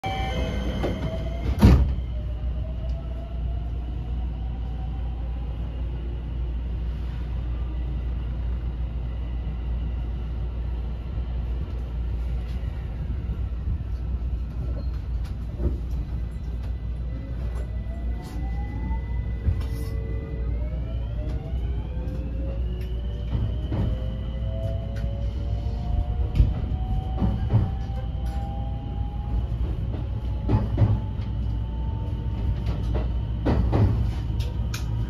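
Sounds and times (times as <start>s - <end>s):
train wheels rumbling on track: 0.0s - 4.5s, 5.5s - 35.0s.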